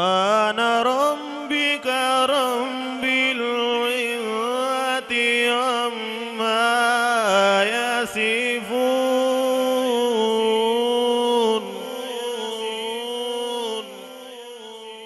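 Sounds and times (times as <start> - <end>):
man chanting into microphone: 0.0 - 15.0.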